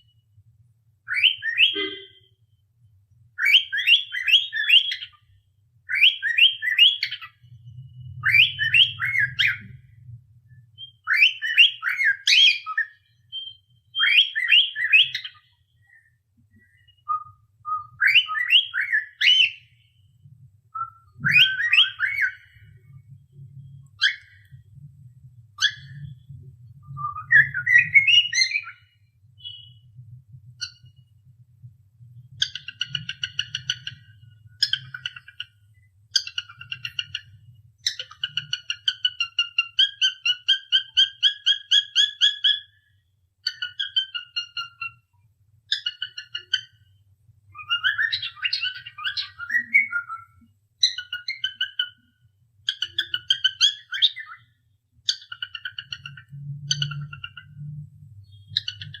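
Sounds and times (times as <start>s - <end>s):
cockatiel whistling and chirping: 1.0s - 2.2s, 3.4s - 5.2s, 5.9s - 9.8s, 10.8s - 16.0s, 16.6s - 19.9s, 20.7s - 22.8s, 23.9s - 24.6s, 25.6s - 29.9s, 30.6s - 31.1s, 32.3s - 35.5s, 36.1s - 42.8s, 43.4s - 45.1s, 45.7s - 46.9s, 47.5s - 59.0s.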